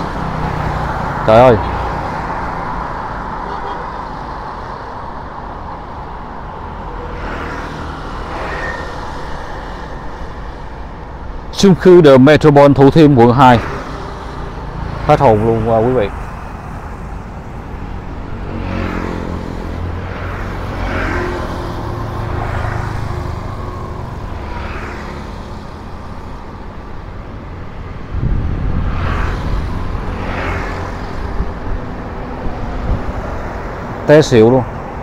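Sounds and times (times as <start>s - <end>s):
passing vehicles: 0.0s - 35.0s.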